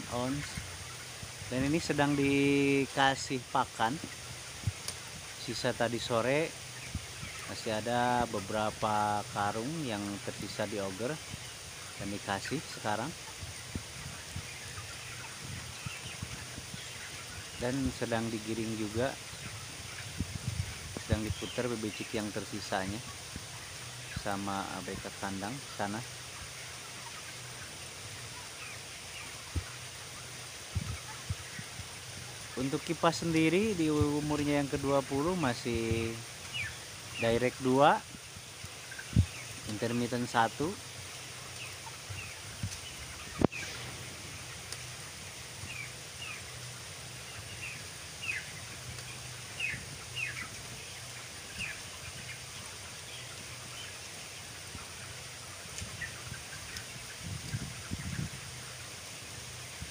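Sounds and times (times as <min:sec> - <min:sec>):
chickens chattering: 0:00.0 - 0:59.9
ventilation fans humming: 0:00.0 - 0:59.9.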